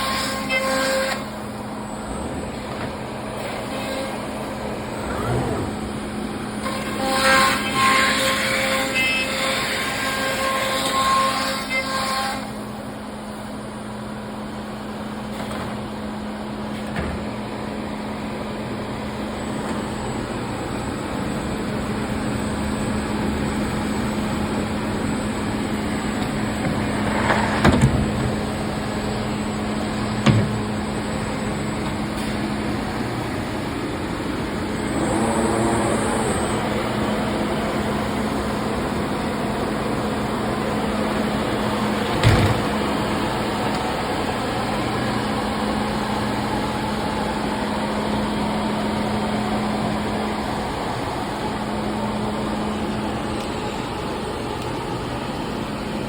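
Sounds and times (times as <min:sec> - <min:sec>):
cnc router humming: 0:00.0 - 0:56.0.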